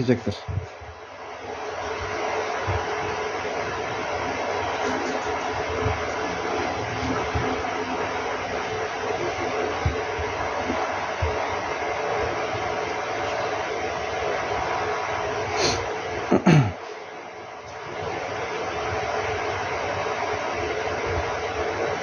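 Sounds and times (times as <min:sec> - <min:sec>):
blower rushing air: 0:00.0 - 0:22.0.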